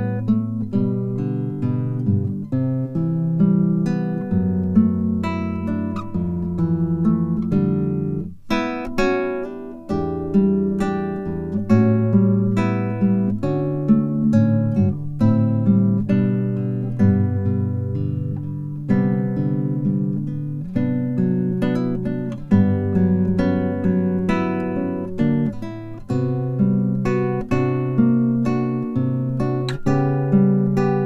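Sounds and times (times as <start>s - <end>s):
acoustic guitar plucked and strummed: 0.0s - 31.0s.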